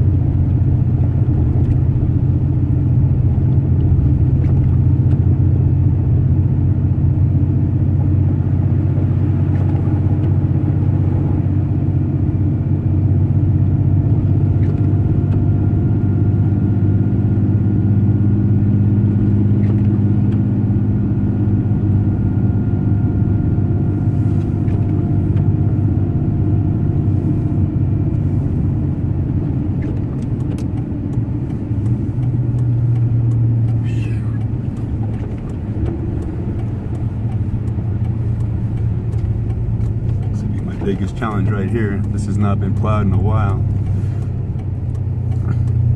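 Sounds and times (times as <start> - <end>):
truck engine and tyre rumble: 0.0 - 45.9.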